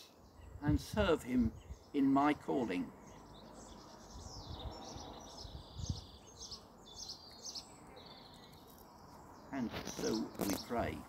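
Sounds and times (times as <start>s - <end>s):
low outdoor background noise: 0.0s - 11.0s
small birds chirping: 0.0s - 11.0s.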